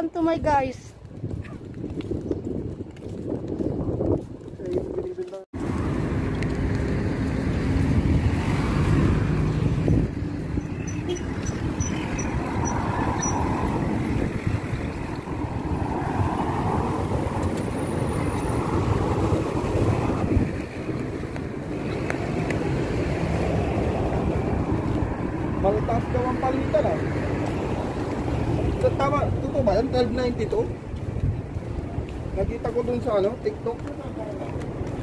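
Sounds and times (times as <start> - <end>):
cars running past: 5.6 - 35.0.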